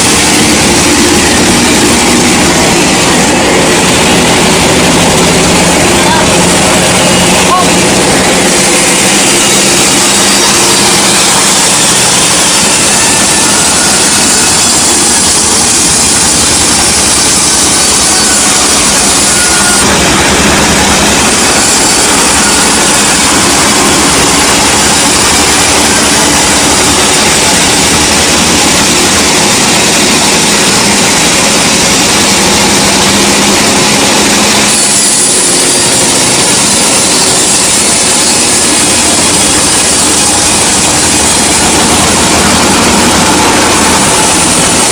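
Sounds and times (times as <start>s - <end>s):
engine hum: 0.0s - 44.9s
saw cutting through log: 0.0s - 44.9s.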